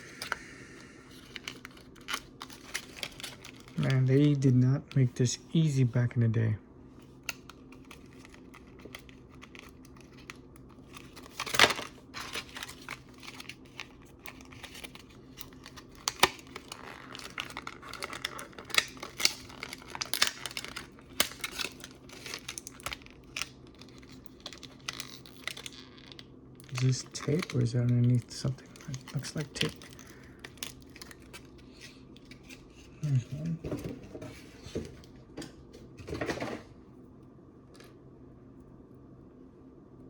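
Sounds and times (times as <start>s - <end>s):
plastic packaging crinkling: 0.0s - 6.0s, 7.0s - 35.1s.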